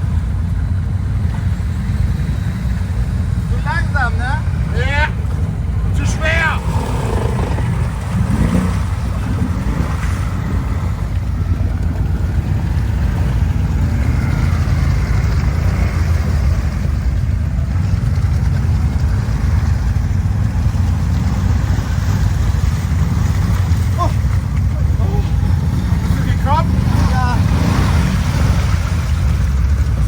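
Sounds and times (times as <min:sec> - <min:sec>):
quad engine rumbling: 0:00.0 - 0:30.0.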